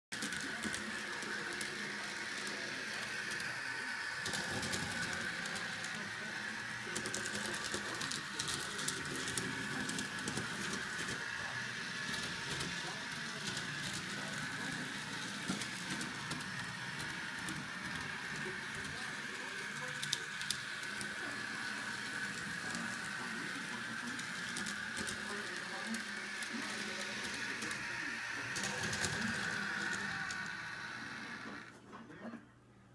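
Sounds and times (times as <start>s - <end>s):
model streetcar motor whine: 0.1s - 31.7s.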